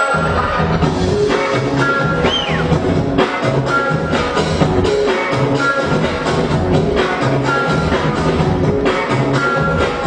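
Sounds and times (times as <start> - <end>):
music with drums: 0.0 - 10.0.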